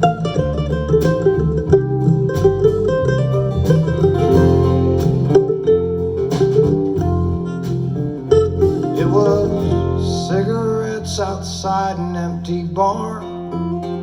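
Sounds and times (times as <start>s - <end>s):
bass line: 0.0s - 14.0s
picked acoustic guitar: 0.0s - 14.0s.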